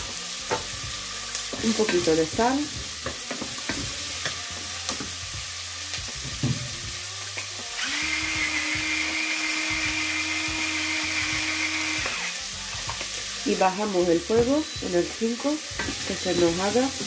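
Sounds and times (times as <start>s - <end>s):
vegetables sizzling in butter: 0.0s - 17.0s.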